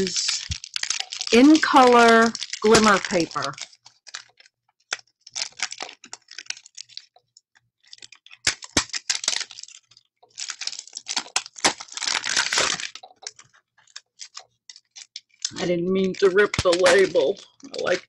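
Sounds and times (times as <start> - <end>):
cellophane crinkling and tearing: 0.0 - 18.0.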